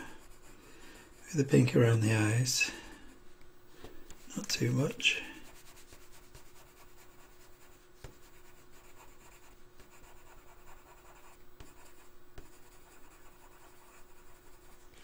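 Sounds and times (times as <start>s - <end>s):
pencil scratching on paper: 0.0s - 1.8s, 4.1s - 15.0s.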